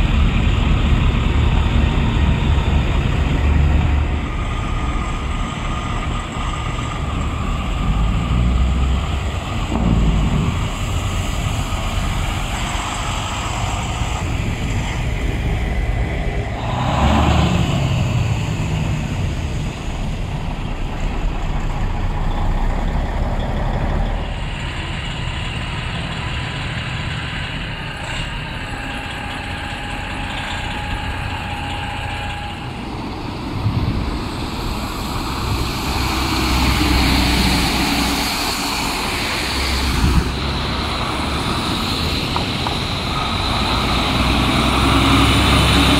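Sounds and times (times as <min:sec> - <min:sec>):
diesel trucks driving past: 0:00.0 - 0:45.9
tyres on slushy road: 0:00.0 - 0:45.9.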